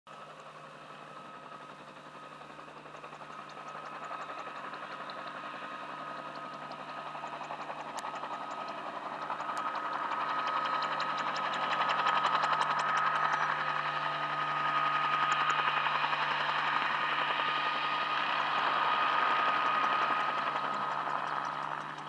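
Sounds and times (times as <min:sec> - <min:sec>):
helicopter engine whine: 0:00.1 - 0:22.0
helicopter rotor beat: 0:00.1 - 0:22.0.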